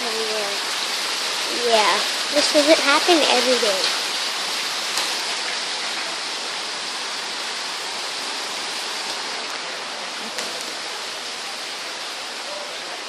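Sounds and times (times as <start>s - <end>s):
heavy rain pouring: 0.0s - 13.0s
running water: 0.0s - 13.0s.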